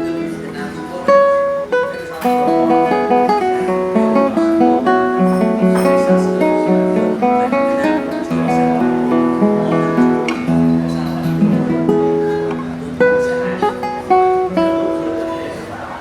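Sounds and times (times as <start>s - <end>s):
classical guitar playing: 0.0s - 16.0s.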